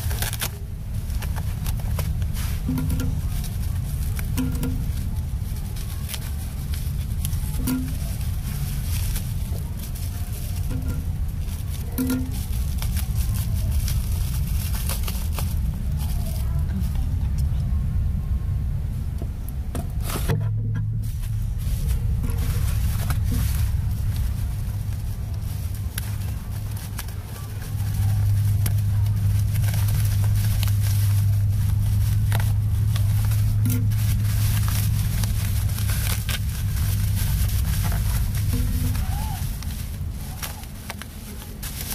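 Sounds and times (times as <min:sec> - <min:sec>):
bubble wrap crackling: 0:00.0 - 0:17.6, 0:19.9 - 0:41.9
low hum: 0:00.0 - 0:41.9
steady low rumble: 0:00.0 - 0:41.9.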